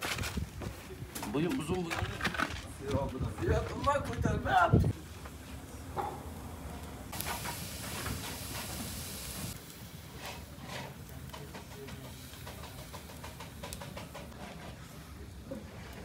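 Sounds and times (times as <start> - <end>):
wood fire hissing and crackling: 0.0 - 16.0.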